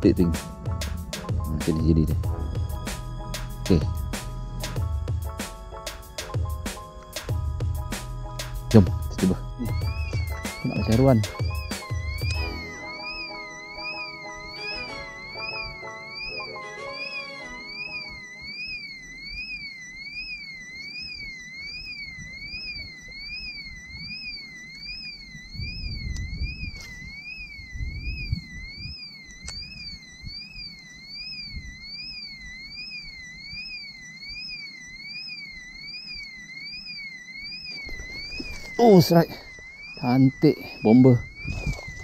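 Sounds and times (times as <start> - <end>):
electronic alarm warbling: 0.0 - 42.0.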